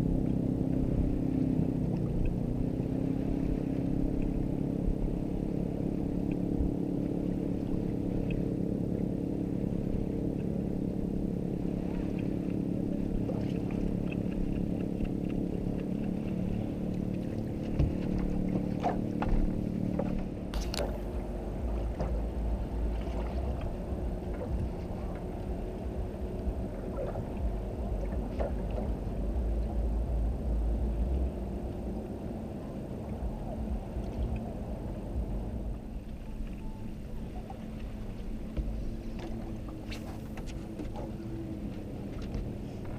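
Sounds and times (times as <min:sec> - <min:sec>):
boat motor running: 0:00.0 - 0:42.9.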